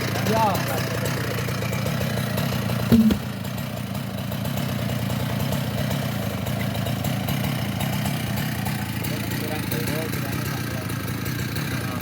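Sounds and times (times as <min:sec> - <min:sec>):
chainsaw engine idling: 0:00.0 - 0:12.0.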